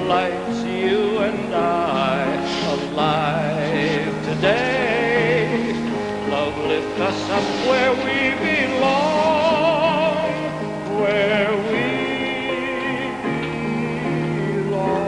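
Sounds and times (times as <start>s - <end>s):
sustained backing chords: 0.0s - 15.0s.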